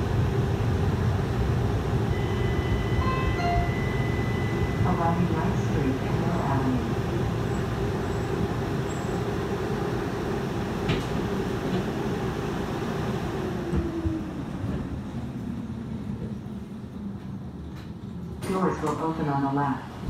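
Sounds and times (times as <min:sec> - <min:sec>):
streetcar rumbling: 0:00.0 - 0:20.0
streetcar whine: 0:00.0 - 0:20.0.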